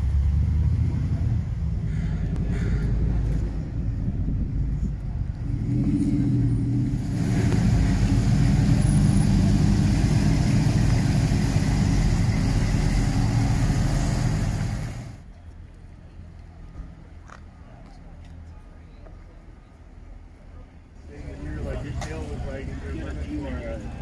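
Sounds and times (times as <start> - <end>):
car engine driving slowly by: 0.0 - 24.0.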